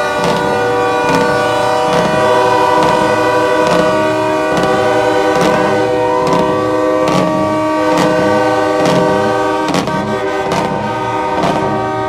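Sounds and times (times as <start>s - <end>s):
music with steady beat and bassline: 0.0s - 12.0s
truck air horns: 0.0s - 12.0s.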